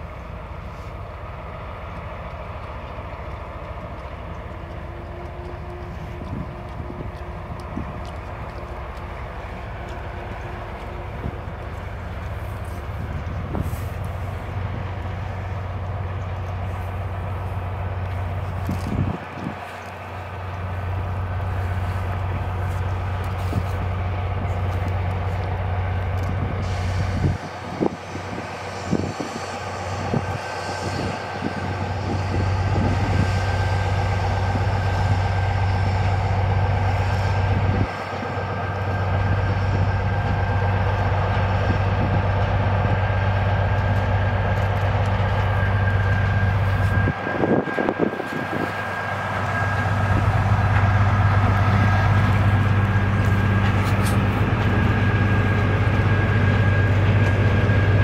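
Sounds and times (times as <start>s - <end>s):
train running: 0.0s - 58.0s.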